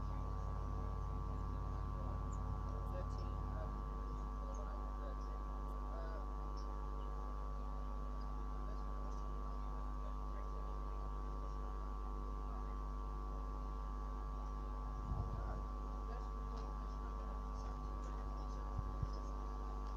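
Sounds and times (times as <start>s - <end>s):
steady multi-tone hum: 0.0s - 19.9s.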